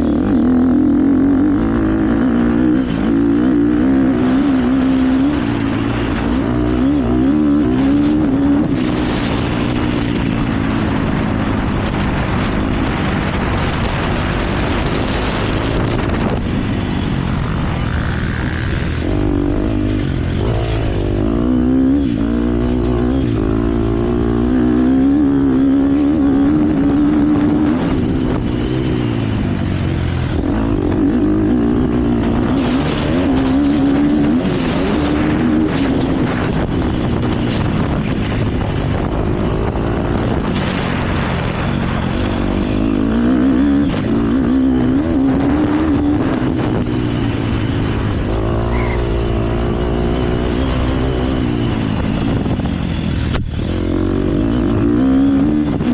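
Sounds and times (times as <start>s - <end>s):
motocross bike engine at speed: 0.0s - 55.9s
wind rushing past microphone: 0.0s - 55.9s.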